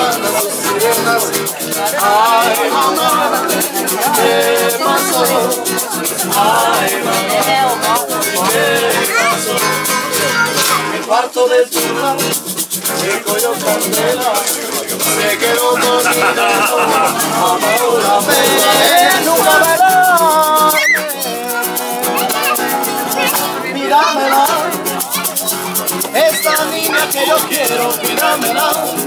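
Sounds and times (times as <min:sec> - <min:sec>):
shaker rattling: 0:00.0 - 0:10.1, 0:11.8 - 0:23.6, 0:24.3 - 0:29.0
men singing: 0:00.0 - 0:25.2, 0:26.0 - 0:29.0
acoustic guitars strumming: 0:00.0 - 0:29.0.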